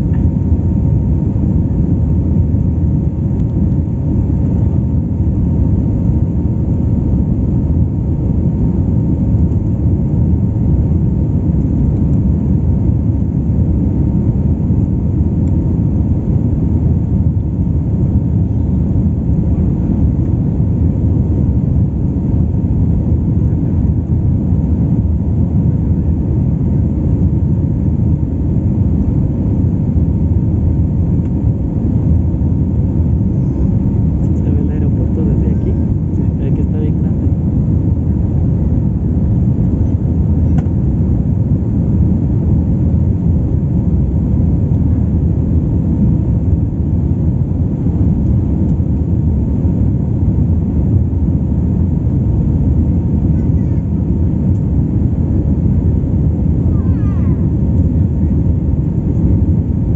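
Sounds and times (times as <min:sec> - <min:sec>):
airplane cabin rumble: 0:00.0 - 0:59.9
faint steady whine: 0:00.0 - 0:59.9.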